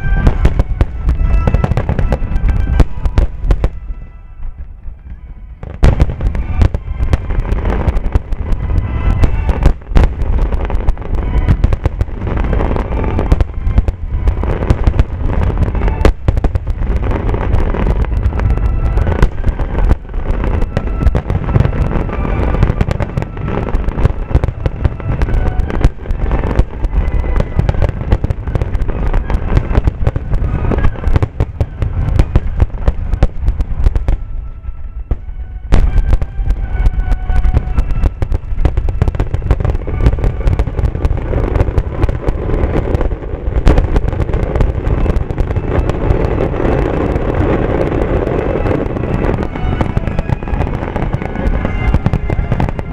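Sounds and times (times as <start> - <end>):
fireworks booming and crackling: 0.0 - 52.9.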